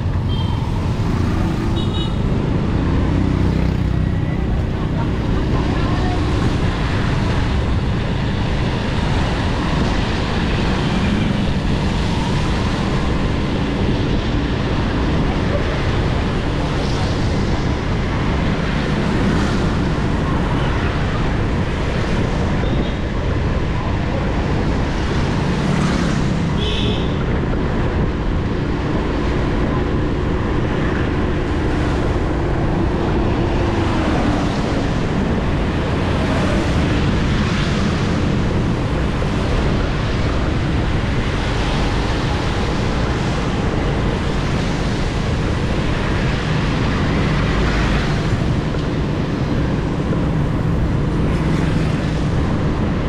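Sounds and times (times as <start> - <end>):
motor traffic rumble: 0.0 - 53.0.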